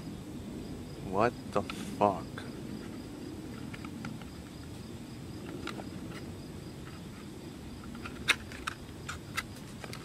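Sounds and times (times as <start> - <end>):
faint insect buzz: 0.0 - 10.0.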